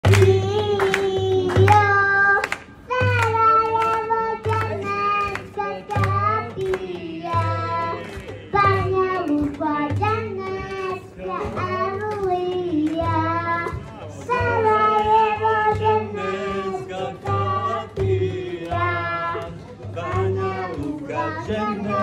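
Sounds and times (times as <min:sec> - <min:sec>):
girl singing through microphone: 0:00.0 - 0:18.0, 0:18.6 - 0:22.0
frame drum beat: 0:00.0 - 0:22.0.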